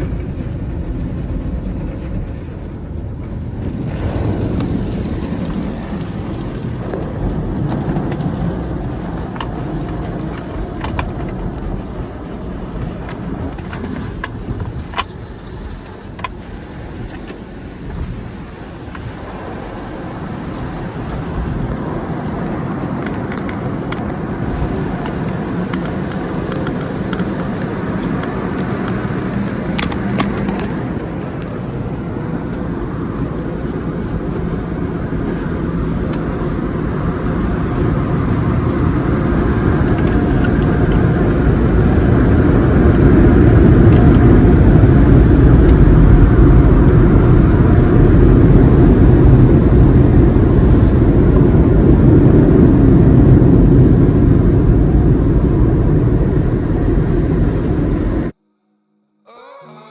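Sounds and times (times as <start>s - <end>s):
car low rumble: 0.0s - 58.4s.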